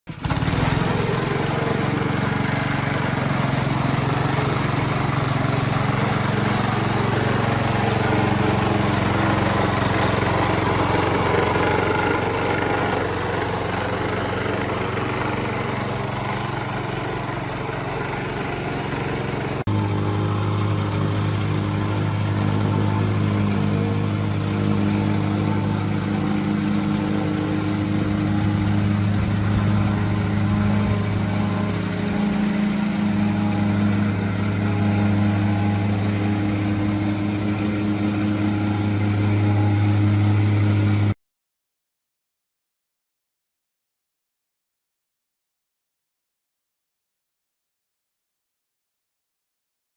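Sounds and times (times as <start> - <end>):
small petrol engine running: 0.1 - 41.2.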